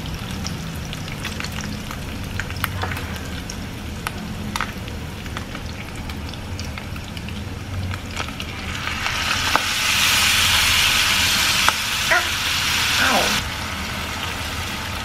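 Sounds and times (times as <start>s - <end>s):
bacon sizzling in a pan: 0.0s - 15.0s.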